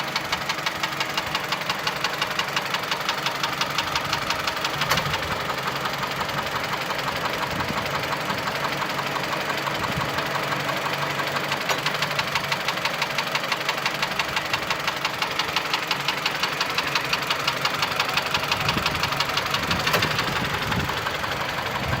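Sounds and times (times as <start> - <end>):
car engine idling: 0.0 - 22.0
rapid ringing engine knock: 0.0 - 22.0.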